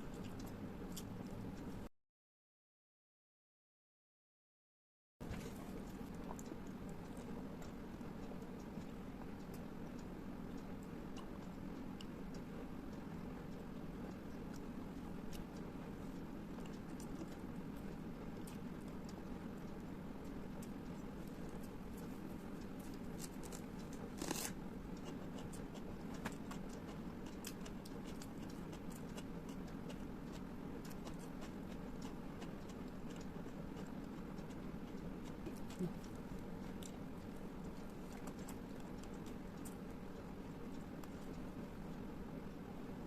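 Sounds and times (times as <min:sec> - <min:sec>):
steady low hum: 0:00.0 - 0:01.9, 0:05.2 - 0:43.0
chewing clicks and smacks: 0:00.1 - 0:01.7, 0:05.8 - 0:42.1.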